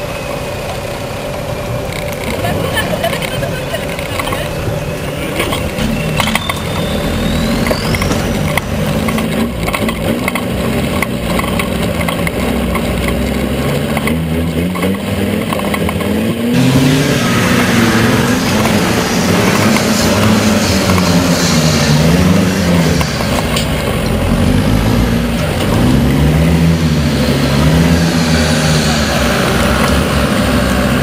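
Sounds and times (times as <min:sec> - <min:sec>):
engine revving under load: 0:04.2 - 0:31.0.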